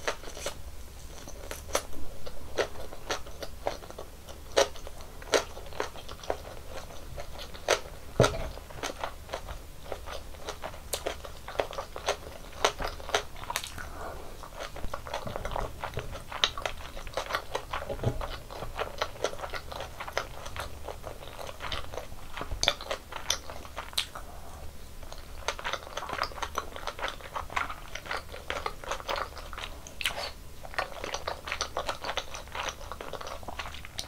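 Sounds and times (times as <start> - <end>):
person chewing and biting food: 0.0 - 34.0.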